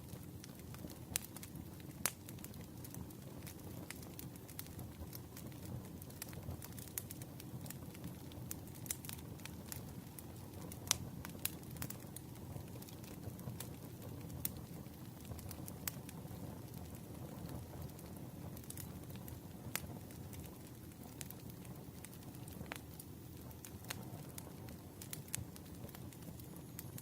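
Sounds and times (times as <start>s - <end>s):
campfire crackling and popping: 0.0s - 27.0s
low rumble of burning wood: 0.0s - 27.0s.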